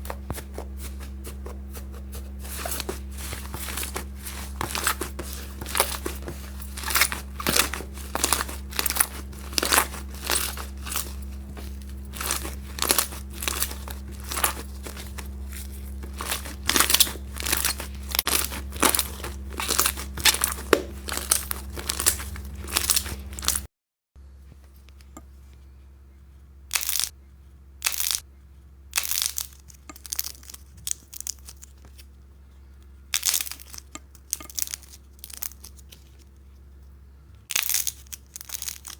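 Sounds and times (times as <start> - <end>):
slime crackling and squishing: 0.0 - 23.7, 26.7 - 27.2, 27.8 - 28.3, 28.9 - 32.2, 32.8 - 36.6, 37.5 - 38.9.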